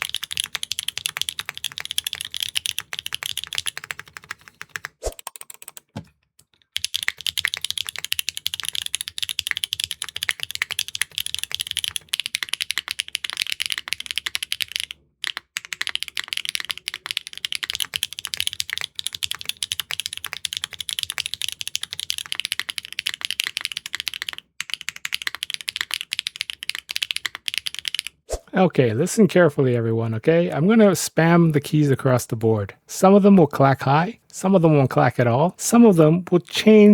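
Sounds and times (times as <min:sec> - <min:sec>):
clacky keyboard typing: 0:00.0 - 0:28.2, 0:33.4 - 0:36.9.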